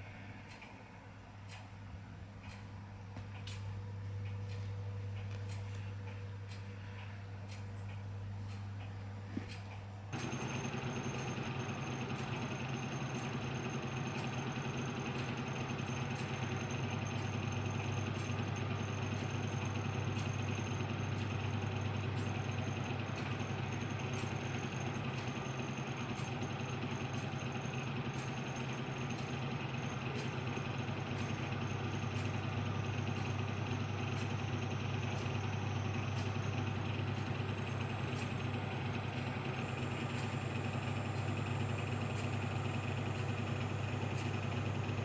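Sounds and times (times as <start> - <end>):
engine idling with high whine: 0.0 - 45.0
quiet low hum: 0.0 - 45.0.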